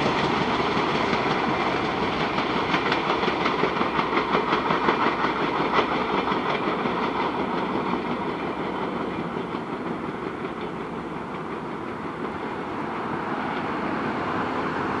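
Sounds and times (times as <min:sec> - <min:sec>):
faint clickety-clack: 0:00.0 - 0:15.0
train wheels rumbling on rails: 0:00.0 - 0:15.0.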